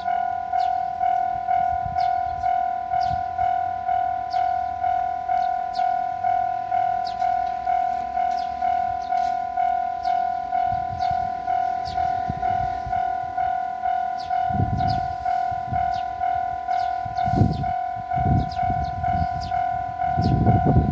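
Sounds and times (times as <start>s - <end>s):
level-crossing warning bell ringing: 0.0s - 20.9s.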